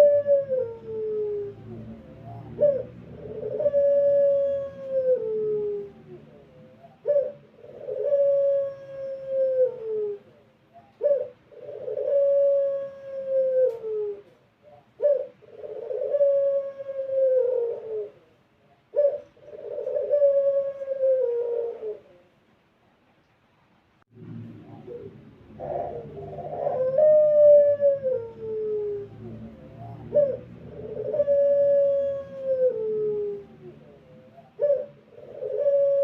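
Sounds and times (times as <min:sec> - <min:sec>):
dove cooing: 0:00.0 - 0:22.4, 0:24.5 - 0:36.0.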